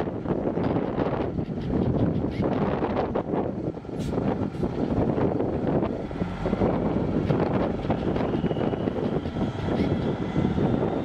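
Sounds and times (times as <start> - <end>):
diesel truck engine running: 0.0 - 11.0
wind buffeting microphone: 0.0 - 11.0.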